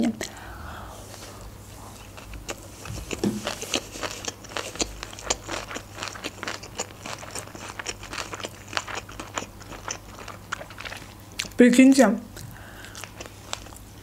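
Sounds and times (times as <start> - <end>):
person chewing food: 0.2 - 11.6, 12.3 - 14.0.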